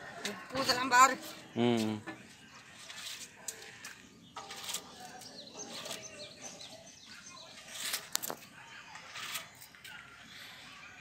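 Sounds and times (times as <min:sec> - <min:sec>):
low distant voices: 0:00.0 - 0:11.0
small birds chirping: 0:00.4 - 0:11.0.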